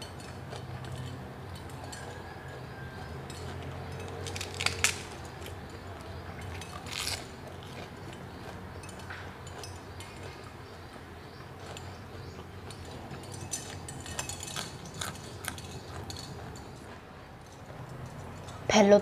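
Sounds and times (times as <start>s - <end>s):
crunching raw vegetables: 0.0s - 18.0s
steady low hum: 0.0s - 19.0s.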